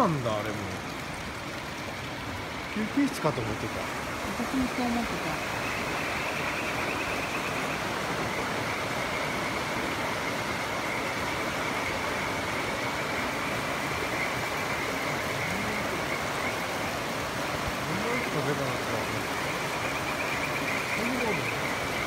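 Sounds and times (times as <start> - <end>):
river water rushing over weir: 0.0 - 22.0.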